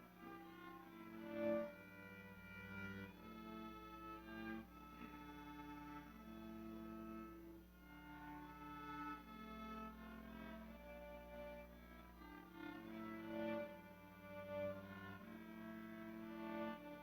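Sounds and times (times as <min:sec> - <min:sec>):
violin and cello music: 0:00.0 - 0:17.0.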